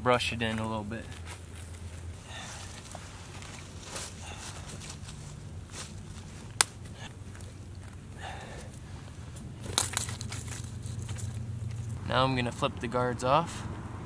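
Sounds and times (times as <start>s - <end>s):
sticks and dry leaves rustling: 0.5s - 12.0s.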